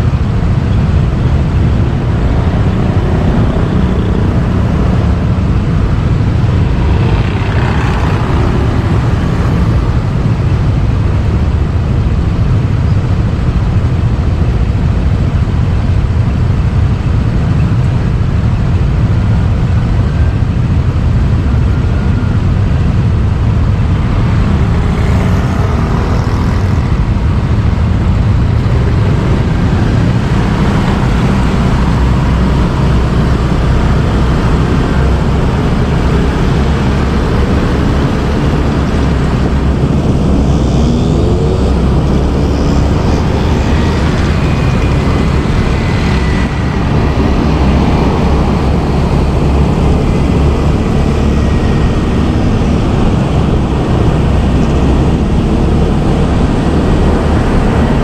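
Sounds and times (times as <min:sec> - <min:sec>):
motorbike engine rumble: 0:00.0 - 0:58.0
traffic passing: 0:00.0 - 0:58.0.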